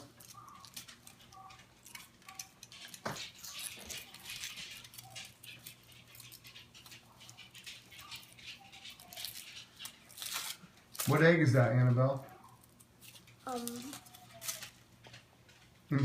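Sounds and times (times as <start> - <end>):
foil wrapper crinkling: 0.0 - 15.2.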